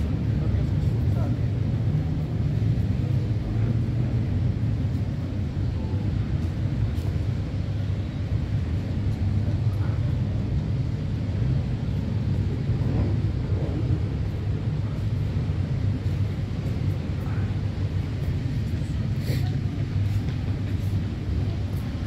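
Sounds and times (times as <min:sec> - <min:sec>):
city background rumble: 0:00.0 - 0:22.0.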